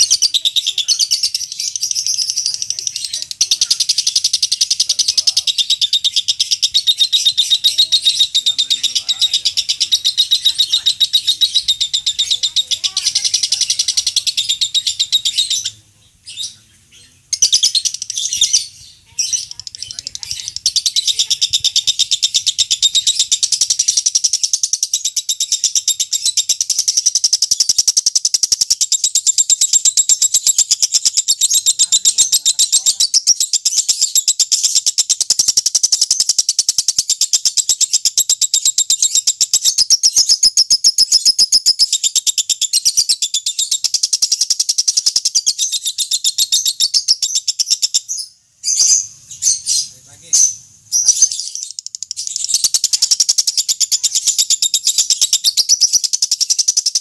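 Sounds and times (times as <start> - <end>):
bird chattering trill: 0.0 - 57.0.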